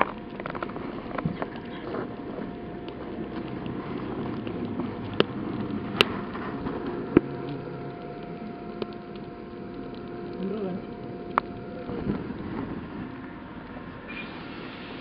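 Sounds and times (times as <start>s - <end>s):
firewood crackling: 0.0s - 15.0s.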